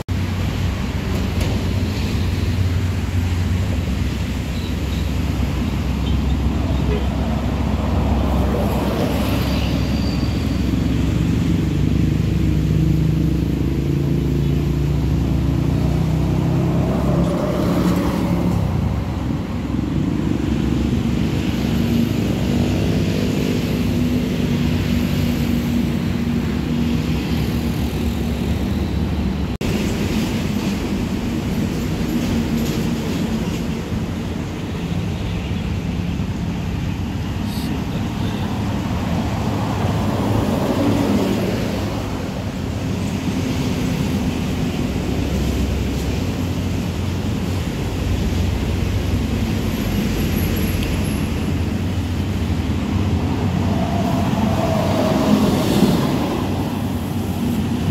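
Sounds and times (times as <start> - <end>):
bus engines droning: 0.0 - 57.9.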